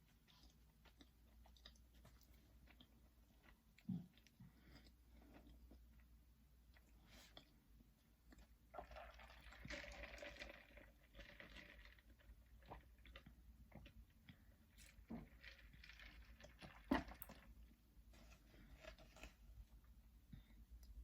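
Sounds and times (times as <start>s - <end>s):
chewing and crunching food: 0.0s - 21.0s.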